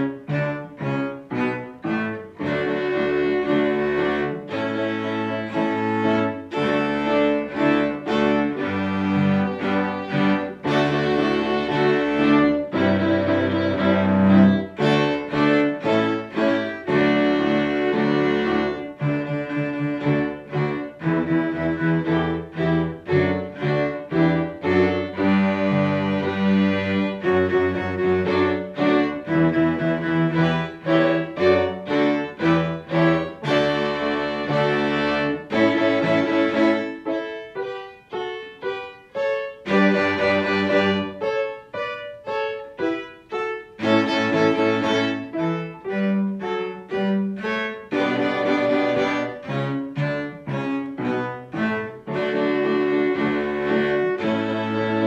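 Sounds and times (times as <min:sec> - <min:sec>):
cello bass line: 0:00.0 - 0:55.0
piano accompaniment: 0:00.0 - 0:55.0
string ensemble playing dance tune: 0:00.0 - 0:55.0.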